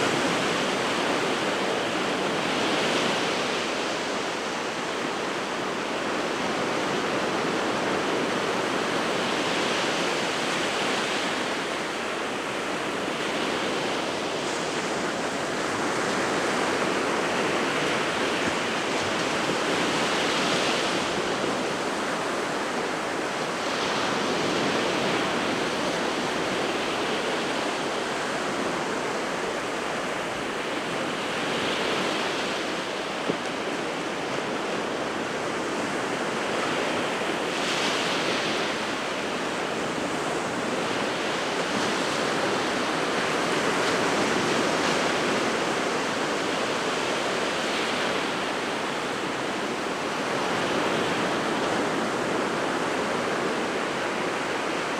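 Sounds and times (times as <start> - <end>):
waves breaking on shore: 0.0 - 54.9.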